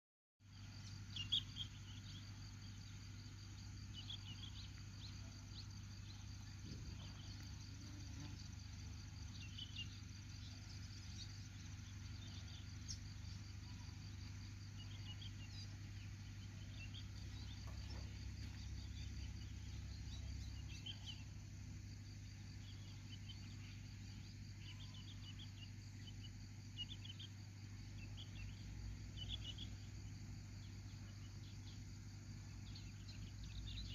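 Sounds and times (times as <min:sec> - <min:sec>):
steady low hum: 0:00.4 - 0:33.9.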